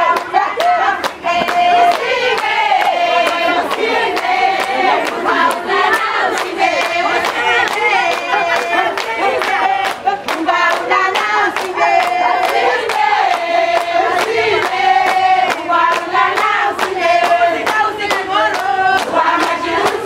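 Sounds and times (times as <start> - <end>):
group of voices singing: 0.0 - 20.0
steady hand-clapping: 0.0 - 20.0.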